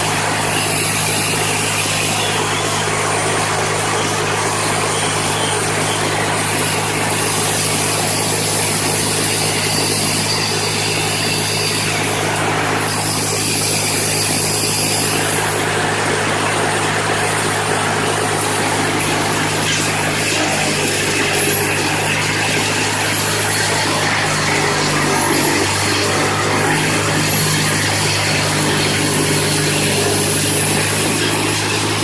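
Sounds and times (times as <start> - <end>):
large engine humming: 0.0 - 32.0.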